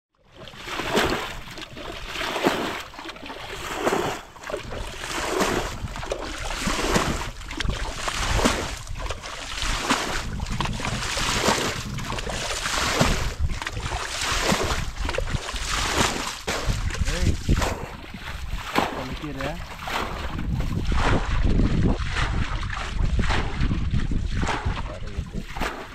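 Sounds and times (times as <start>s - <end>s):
bucket bailing water splashing: 0.3s - 25.9s.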